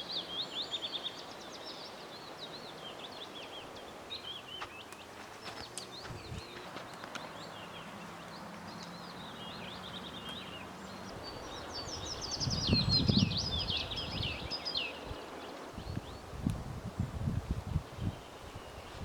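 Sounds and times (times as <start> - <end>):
small songbirds twittering: 0.0 - 19.0.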